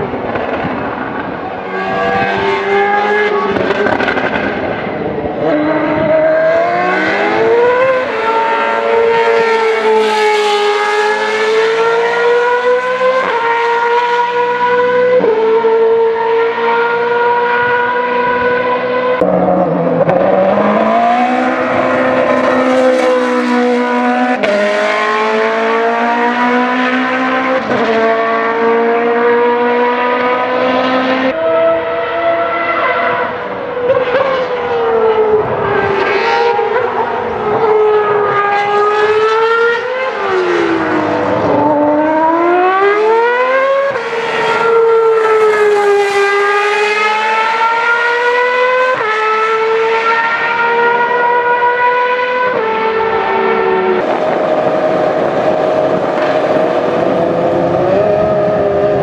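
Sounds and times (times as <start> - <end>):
racing car engine revving: 0.1 - 59.0.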